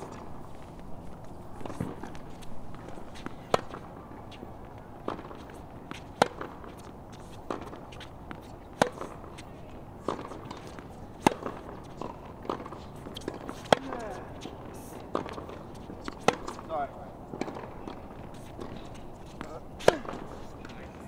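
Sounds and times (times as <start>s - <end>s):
racquets hitting tennis ball: 0.0s - 21.0s.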